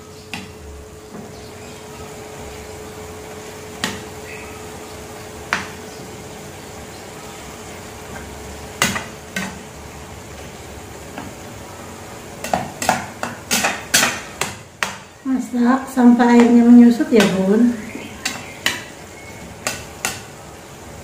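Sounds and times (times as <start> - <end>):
food sizzling: 1.3 - 21.0.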